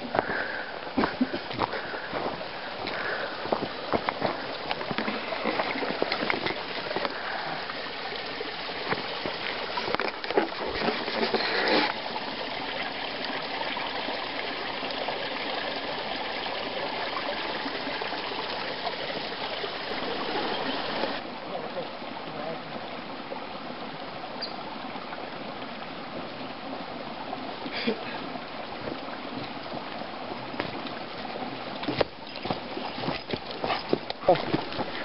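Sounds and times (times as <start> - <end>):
creek water rushing: 0.0 - 35.0.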